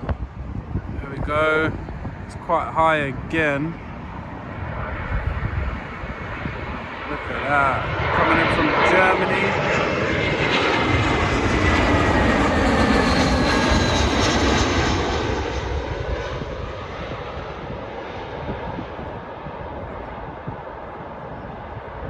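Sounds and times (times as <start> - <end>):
jet airliner passing: 0.0 - 22.0.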